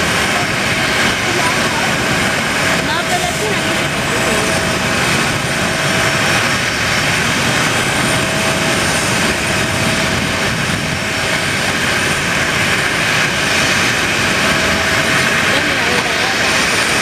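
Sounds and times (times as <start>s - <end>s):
jet engines taxiing: 0.0s - 17.0s.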